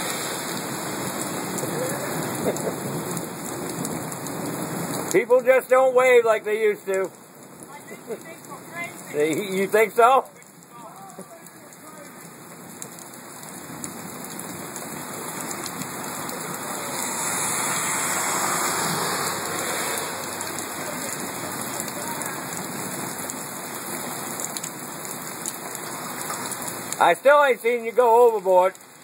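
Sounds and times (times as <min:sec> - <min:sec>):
car tyres hissing through water: 0:00.0 - 0:10.0, 0:11.3 - 0:27.2
heavy rain on a flooded street: 0:00.0 - 0:29.0.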